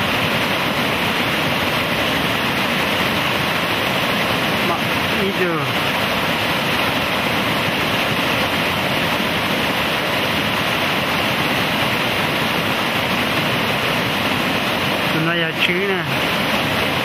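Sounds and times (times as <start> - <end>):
river rapids rushing over rocks: 0.0 - 17.0.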